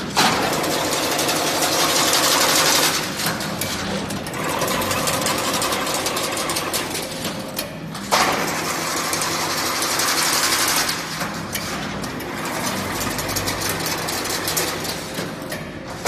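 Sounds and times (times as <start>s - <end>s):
machine whirring: 0.0s - 16.0s.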